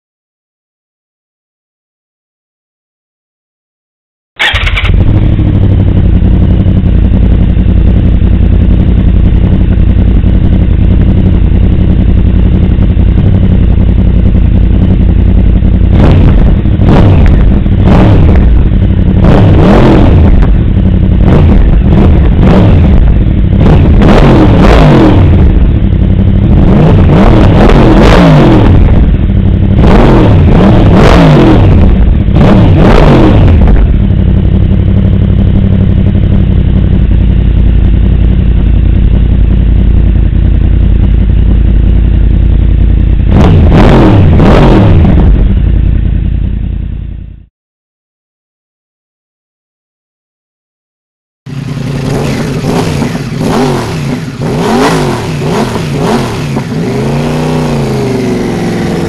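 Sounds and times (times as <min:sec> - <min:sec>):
motorcycle engine revving and idling: 0:04.4 - 0:47.5, 0:51.5 - 0:59.0.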